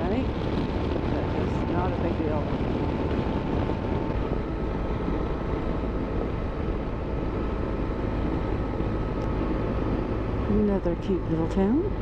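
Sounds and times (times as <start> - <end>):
motorcycle cruising: 0.0 - 12.0.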